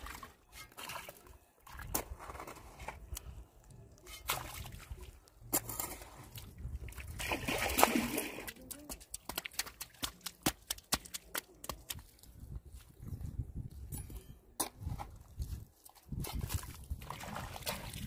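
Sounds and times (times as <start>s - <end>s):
muddy water sloshing: 0.0s - 13.0s, 14.9s - 18.0s.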